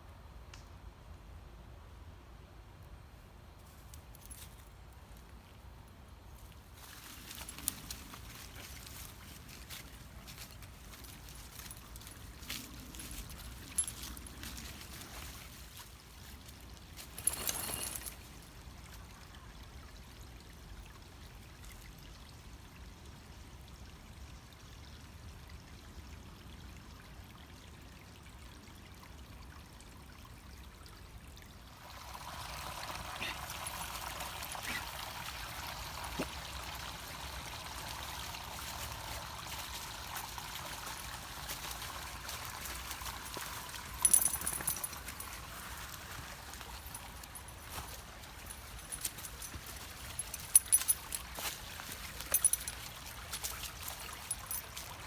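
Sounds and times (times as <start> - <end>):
creek water trickling: 3.6 - 55.0.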